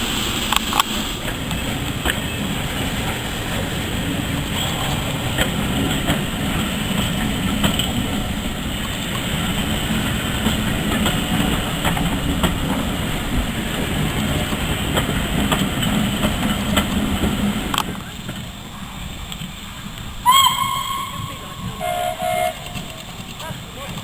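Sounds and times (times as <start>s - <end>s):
train rumbling on track: 0.0s - 24.0s
wheels clicking over rail joints: 0.2s - 24.0s.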